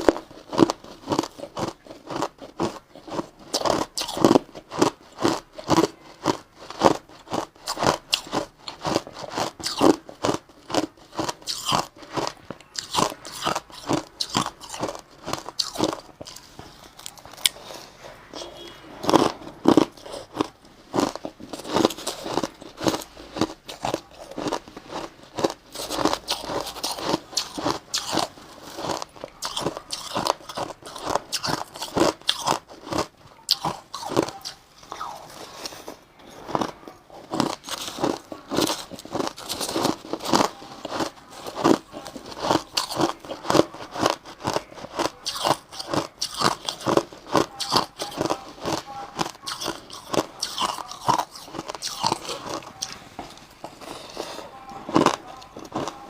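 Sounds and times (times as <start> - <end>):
crushed ice being chewed: 0.0 - 56.0.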